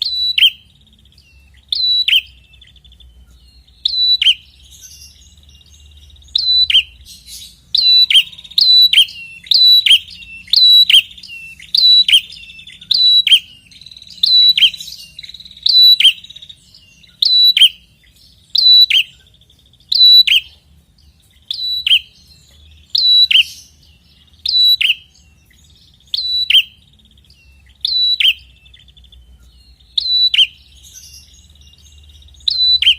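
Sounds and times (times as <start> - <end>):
faint rapid bird trill: 0.0 - 32.9.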